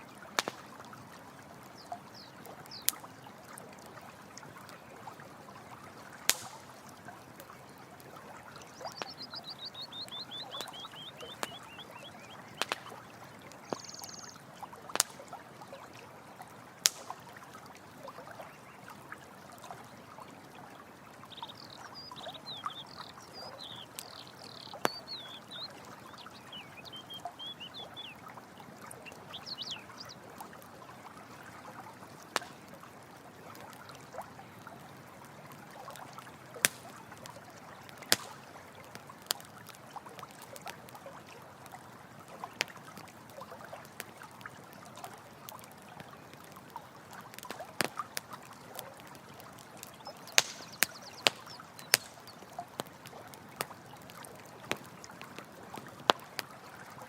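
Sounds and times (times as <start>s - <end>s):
running water: 0.0s - 57.0s
campfire crackling and popping: 0.1s - 20.0s, 21.2s - 57.0s.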